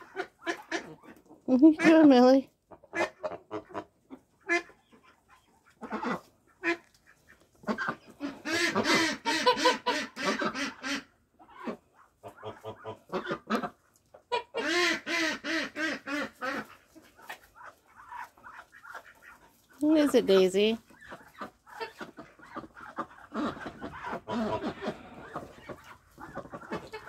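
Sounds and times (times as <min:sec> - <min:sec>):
duck quacking: 0:00.0 - 0:19.5, 0:20.2 - 0:27.0.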